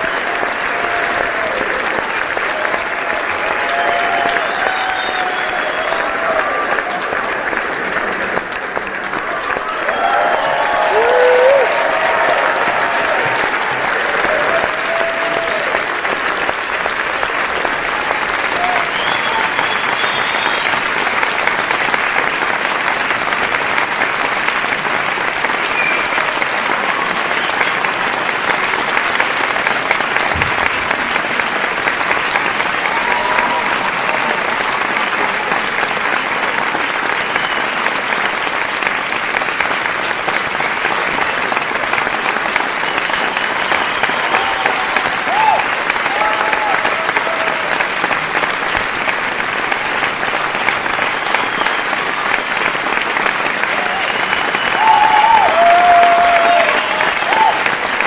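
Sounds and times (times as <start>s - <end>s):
crowd applauding: 0.0s - 58.0s.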